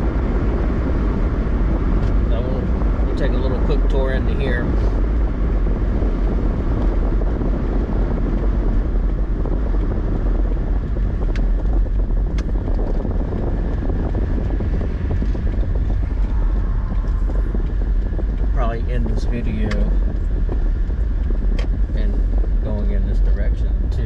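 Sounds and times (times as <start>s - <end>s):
road and engine rumble inside car: 0.0s - 24.0s.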